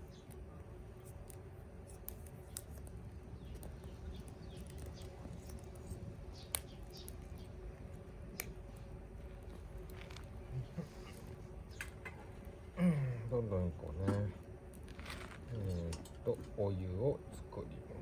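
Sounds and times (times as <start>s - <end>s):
campfire crackling and popping: 0.0s - 17.6s.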